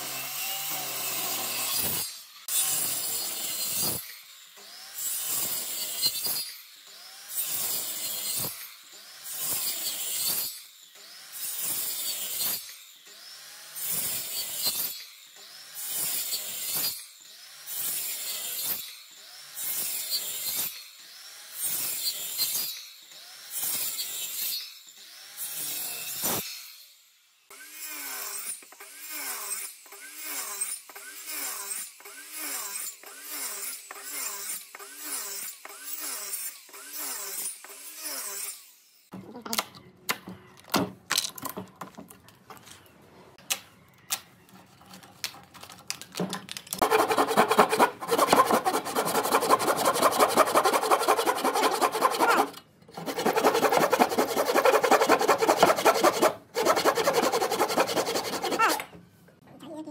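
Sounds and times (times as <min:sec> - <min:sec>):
handsaw cutting wood: 0:00.0 - 0:04.0, 0:04.6 - 0:26.5, 0:27.5 - 0:38.7, 0:46.8 - 0:58.9.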